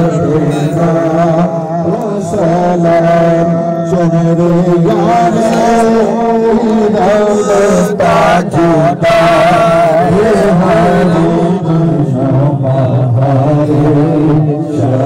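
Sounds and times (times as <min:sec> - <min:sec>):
men humming a devotional melody: 0:00.0 - 0:15.0.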